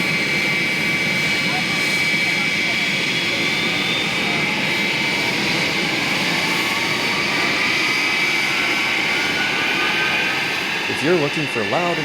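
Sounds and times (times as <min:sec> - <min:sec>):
jet engines whining: 0:00.0 - 0:12.0.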